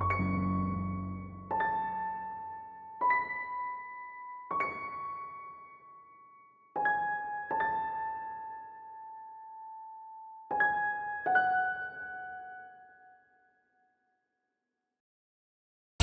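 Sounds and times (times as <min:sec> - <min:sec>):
electric piano melody: 0:00.0 - 0:13.2.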